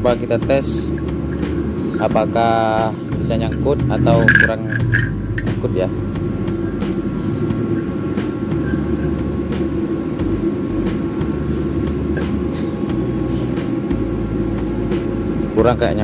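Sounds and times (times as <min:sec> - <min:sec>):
low mechanical rumble: 0:00.0 - 0:16.0.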